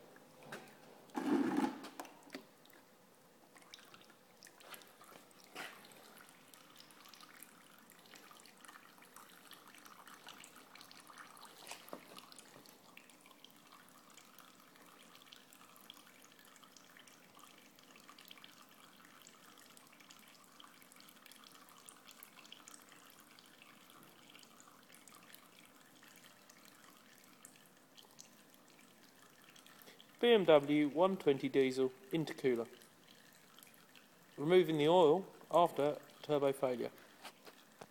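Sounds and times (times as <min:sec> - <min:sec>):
oil dripping and trickling: 0:03.5 - 0:37.9.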